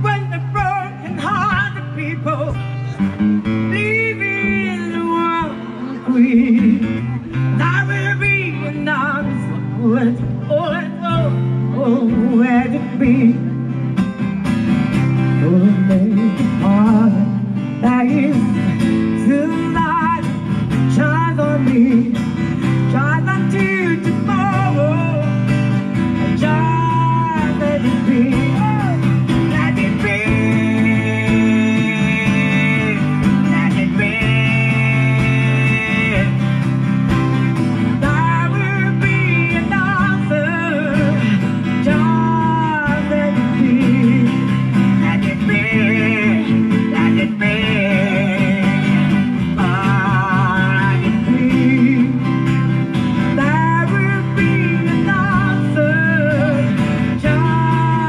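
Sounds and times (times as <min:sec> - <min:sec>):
acoustic guitar music: 0:00.0 - 0:58.0.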